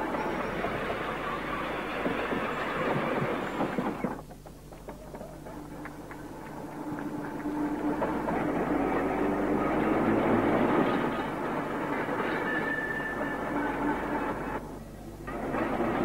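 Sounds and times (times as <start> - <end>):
train wheels clattering: 0.0 - 14.7
rail clicks: 0.0 - 16.0.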